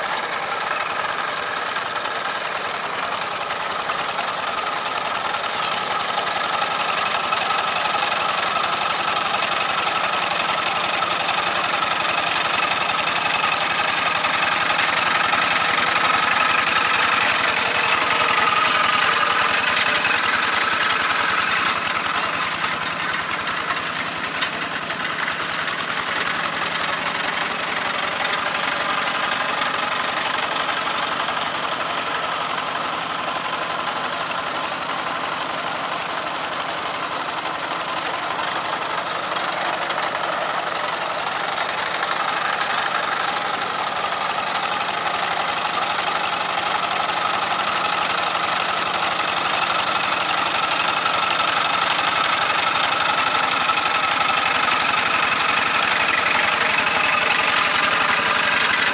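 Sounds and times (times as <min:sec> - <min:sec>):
diesel engine running under load: 0:00.0 - 0:58.9.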